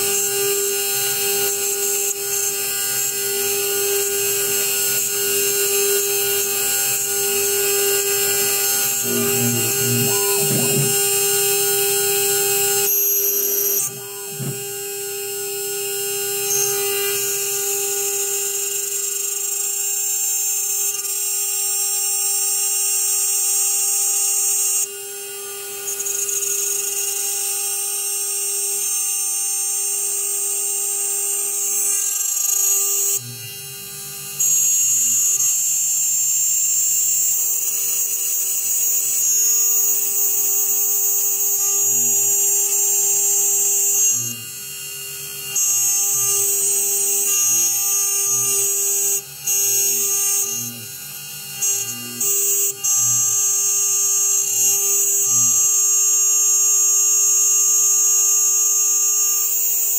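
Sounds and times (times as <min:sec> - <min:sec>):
router spindle whine with cutting hiss: 0:00.0 - 0:59.9.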